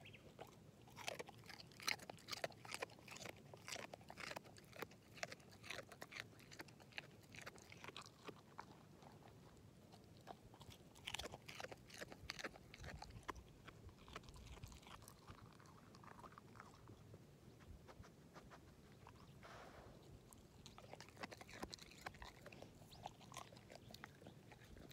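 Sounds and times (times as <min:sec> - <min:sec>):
dog crunching carrot: 0:00.2 - 0:17.2, 0:18.0 - 0:24.9.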